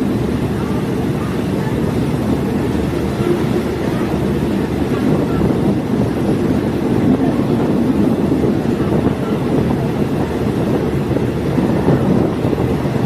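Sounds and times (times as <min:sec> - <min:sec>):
diesel train running: 0:00.0 - 0:13.0.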